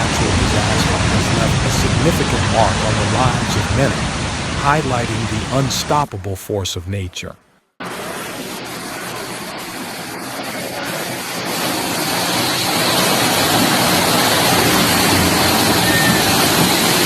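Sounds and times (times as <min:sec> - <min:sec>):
floodwater rushing: 0:00.0 - 0:06.9, 0:08.2 - 0:17.0.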